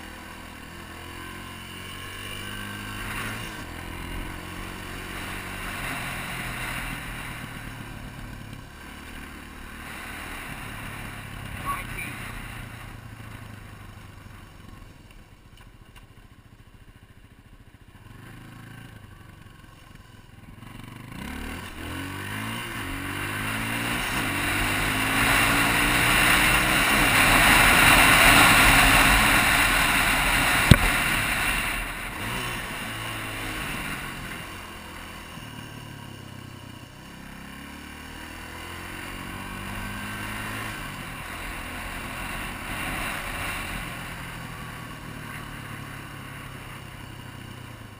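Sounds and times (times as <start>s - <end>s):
motorcycle engine revving: 0.0s - 15.4s, 16.3s - 47.9s.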